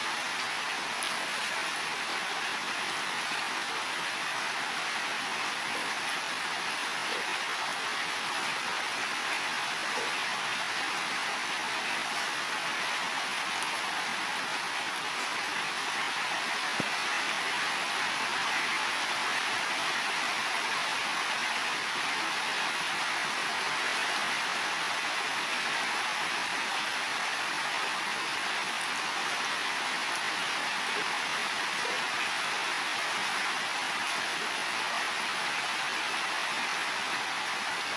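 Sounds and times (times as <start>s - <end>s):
heavy rain on roofs: 0.0s - 37.9s.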